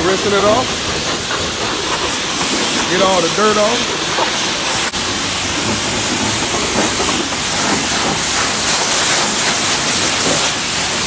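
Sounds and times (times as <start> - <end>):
high-pressure water spray hiss: 0.0 - 11.0.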